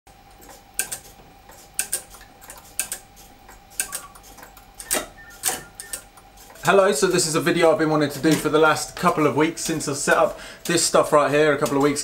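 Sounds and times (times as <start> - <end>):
pendulum clock ticking: 1.8 - 12.0.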